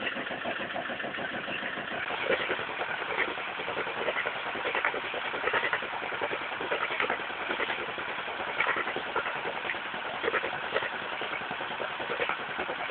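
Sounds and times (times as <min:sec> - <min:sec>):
marine diesel engine exhaust pulses: 0:00.0 - 0:12.9.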